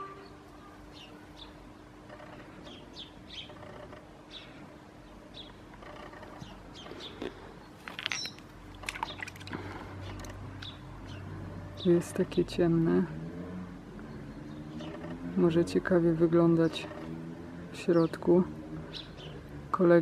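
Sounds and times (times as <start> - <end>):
small birds chirping: 0.0 - 13.1, 13.8 - 20.0.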